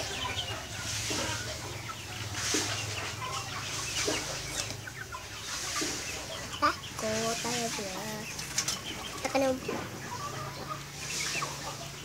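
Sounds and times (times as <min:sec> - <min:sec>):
chickens clucking softly: 0:00.0 - 0:12.0.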